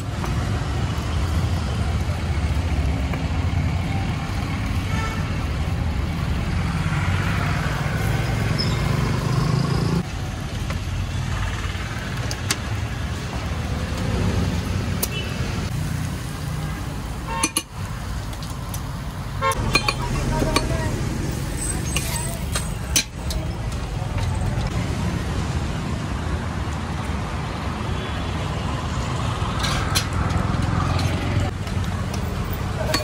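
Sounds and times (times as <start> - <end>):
low rumble of passing traffic: 0.0 - 33.0.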